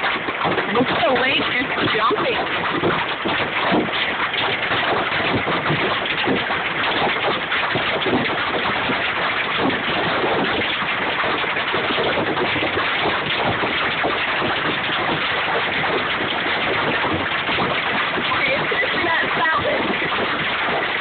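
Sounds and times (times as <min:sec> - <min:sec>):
heavy rain patter: 0:00.0 - 0:21.0.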